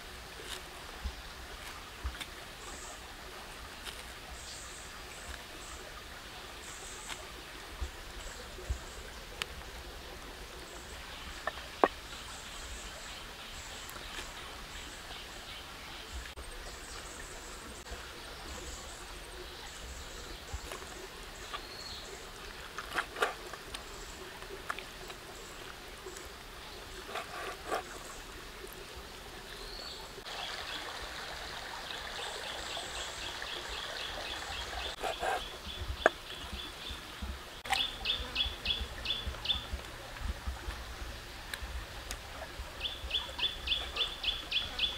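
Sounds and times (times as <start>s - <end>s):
outdoor background noise: 0.0s - 44.9s.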